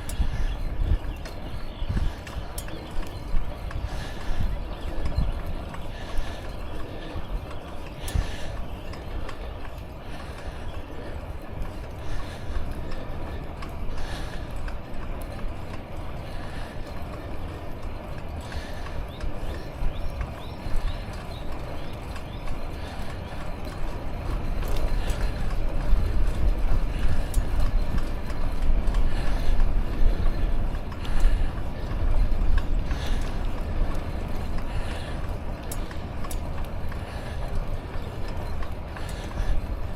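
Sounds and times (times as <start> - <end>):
bicycle tyres hissing on path: 0.0 - 39.9
wind buffeting microphone: 0.0 - 39.9.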